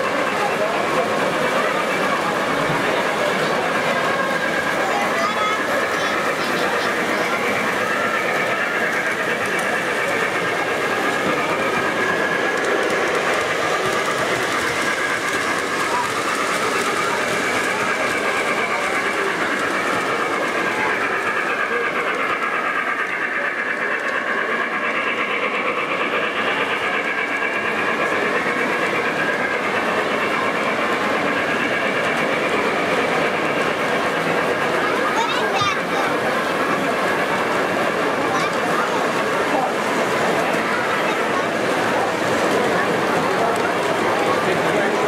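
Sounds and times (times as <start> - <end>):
model trains rolling on track: 0.0 - 45.0.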